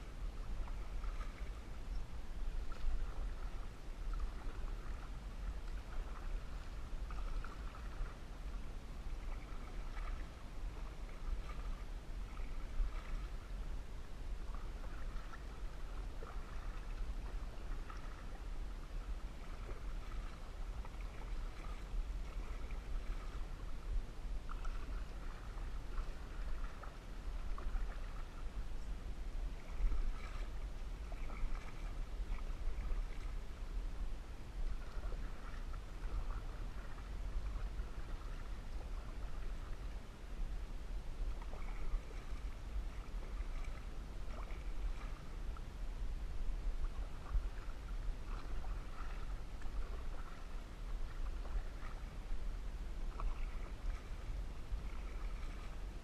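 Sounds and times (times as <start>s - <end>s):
paddle splashing water: 0.0s - 56.0s
steady low rumble: 0.0s - 56.0s.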